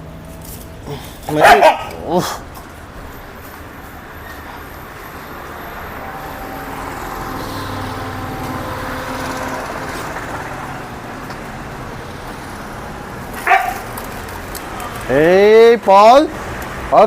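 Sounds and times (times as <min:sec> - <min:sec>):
motor vehicle passing: 0:00.0 - 0:17.0.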